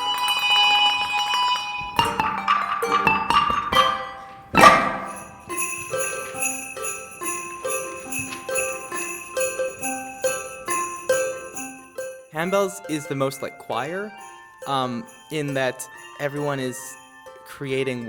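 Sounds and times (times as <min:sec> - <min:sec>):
handbells ringing a tune: 0:00.0 - 0:18.0.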